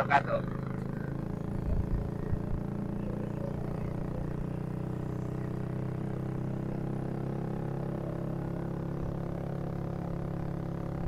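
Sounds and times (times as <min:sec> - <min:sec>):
scooter engine droning: 0:00.0 - 0:11.0.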